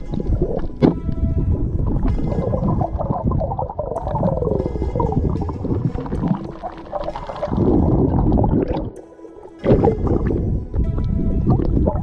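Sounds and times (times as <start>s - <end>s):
underwater rushing and bubbles: 0.0s - 12.0s.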